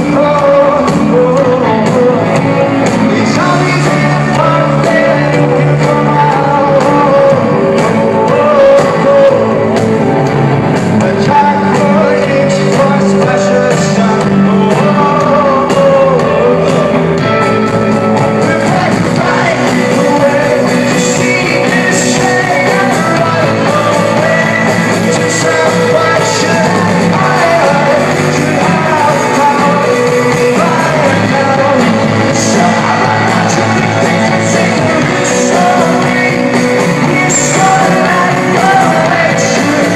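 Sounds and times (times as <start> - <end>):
person singing lead vocals: 0.0 - 39.9
rock band playing live: 0.0 - 39.9.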